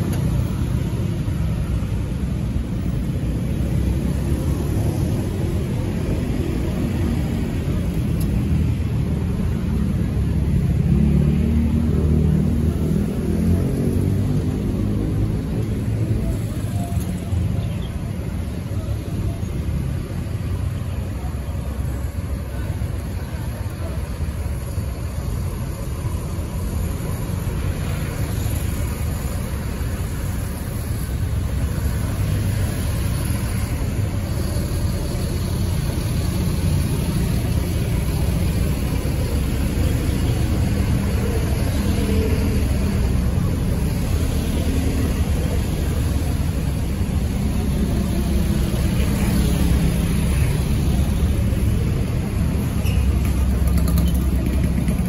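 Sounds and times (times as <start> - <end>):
vehicle engines rumbling: 0.0 - 55.0.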